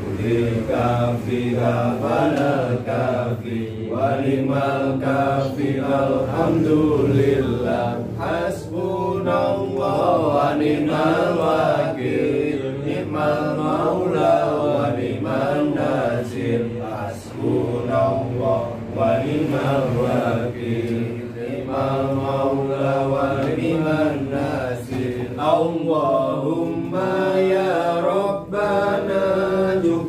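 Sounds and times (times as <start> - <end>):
men chanting prayer: 0.0 - 30.0.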